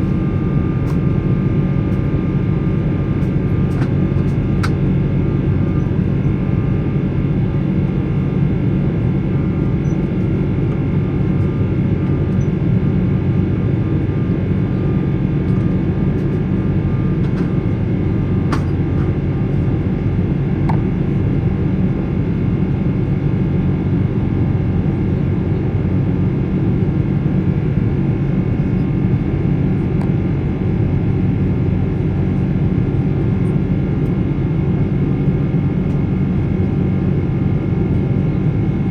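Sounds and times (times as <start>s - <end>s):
jet engines rumbling in cabin: 0.0s - 38.9s
steady hum of tones: 0.0s - 38.9s.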